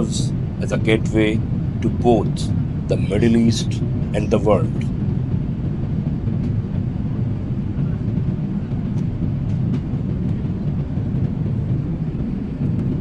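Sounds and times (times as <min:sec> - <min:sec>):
airliner engines and airflow rumble: 0:00.0 - 0:13.0.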